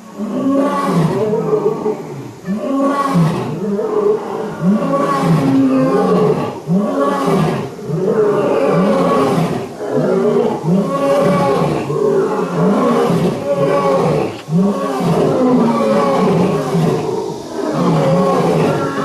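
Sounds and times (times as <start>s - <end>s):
lions roaring: 0.0s - 19.0s.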